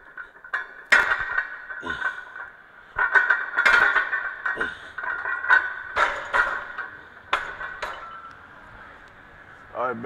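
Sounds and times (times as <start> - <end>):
weight plates clanking on barbell: 0.0 - 8.4.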